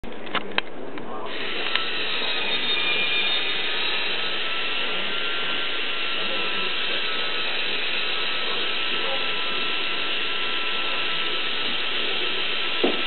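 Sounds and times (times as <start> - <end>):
toy motor and gears whirring: 1.3 - 13.0.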